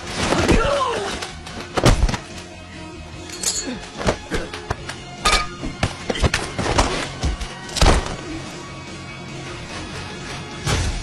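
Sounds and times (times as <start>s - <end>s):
tense music score: 0.0s - 11.0s.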